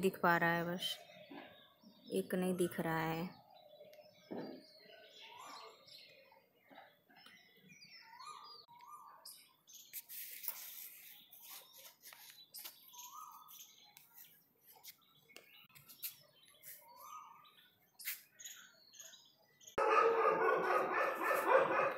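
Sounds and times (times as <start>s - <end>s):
bird chirps: 0.0s - 21.9s.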